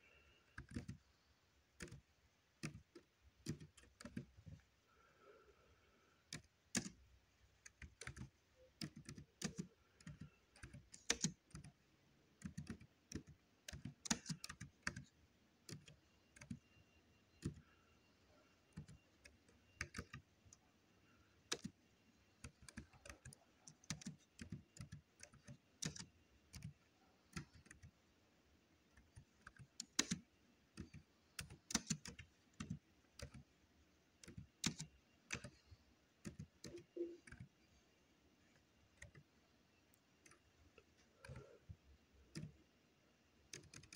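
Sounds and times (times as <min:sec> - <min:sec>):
laptop keyboard typing: 0:00.0 - 0:43.9.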